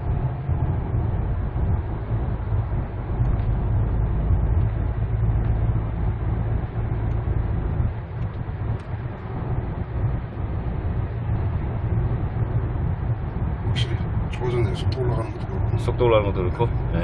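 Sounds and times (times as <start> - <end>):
engine and tyre rumble in car: 0.0 - 17.0.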